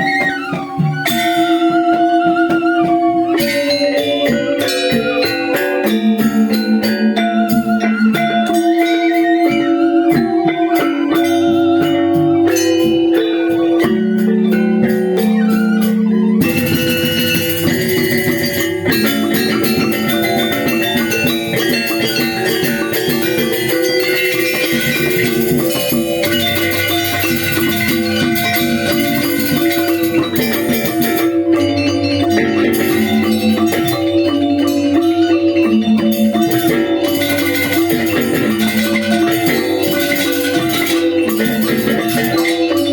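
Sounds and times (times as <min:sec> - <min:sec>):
gamelan metallophones ringing: 0:00.0 - 0:42.9.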